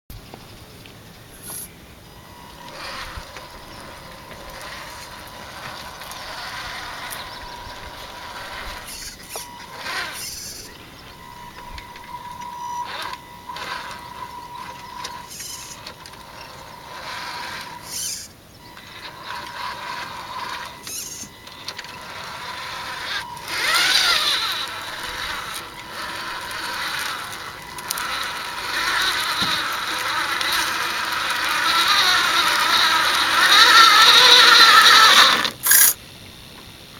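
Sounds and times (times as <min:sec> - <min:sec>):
electric motor and gearbox whining: 0:00.3 - 0:36.0.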